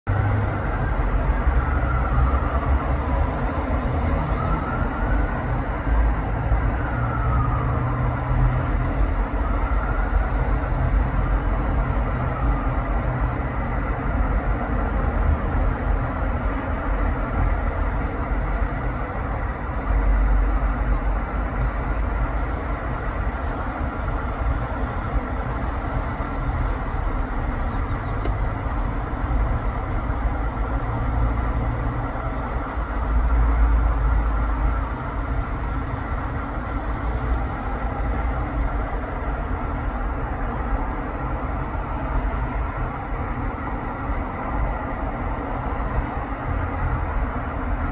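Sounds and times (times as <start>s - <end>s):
rumble of passing traffic: 0.0s - 47.9s.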